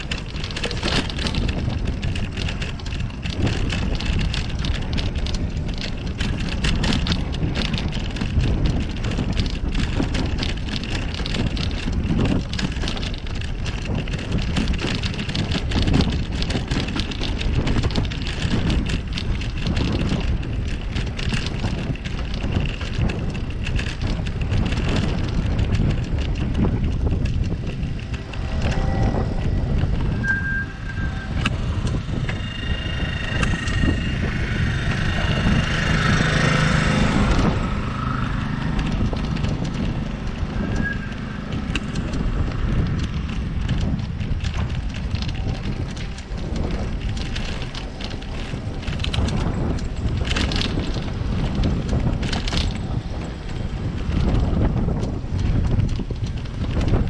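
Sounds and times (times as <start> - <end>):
bicycle tyre and road noise: 0.0 - 57.0
small rattles and knocks: 0.0 - 57.0
wind rumbling on microphone: 0.0 - 57.0.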